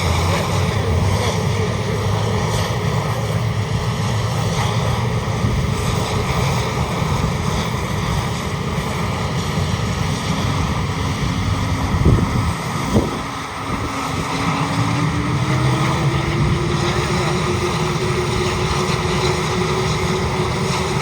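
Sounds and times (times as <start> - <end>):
helicopter rotor and engines: 0.0 - 21.0.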